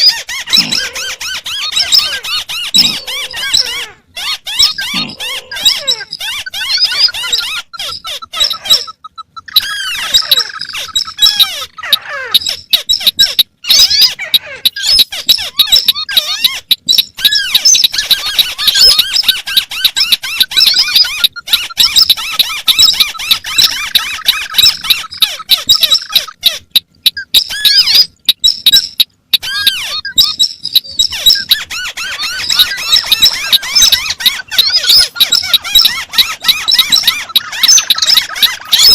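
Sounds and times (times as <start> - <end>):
crake calls chattering: 0.0 - 38.9.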